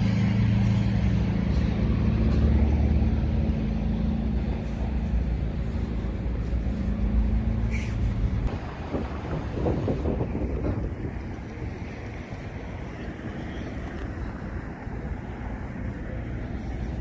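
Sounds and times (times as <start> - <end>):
food truck engine hum: 0.0 - 17.0
low street rumble: 0.0 - 17.0.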